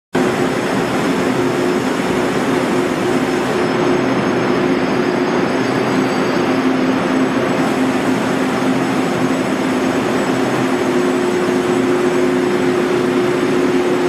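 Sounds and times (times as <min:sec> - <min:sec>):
train wheel and carriage noise: 0:00.2 - 0:14.0.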